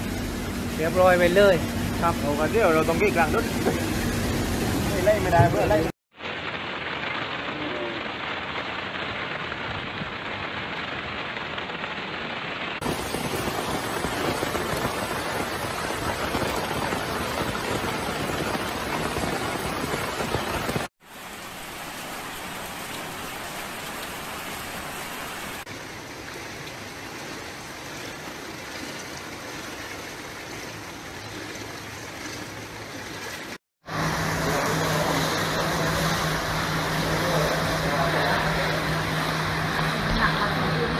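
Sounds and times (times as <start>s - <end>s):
floodwater rushing: 0.0s - 40.9s
rain: 0.0s - 40.9s.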